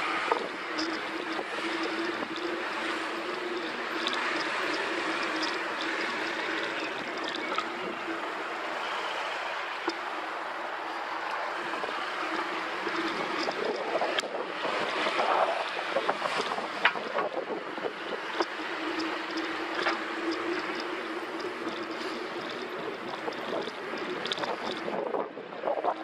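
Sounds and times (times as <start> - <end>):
bicycle clicks and rattles: 0.0 - 25.3
wind and tyre noise: 0.0 - 26.0.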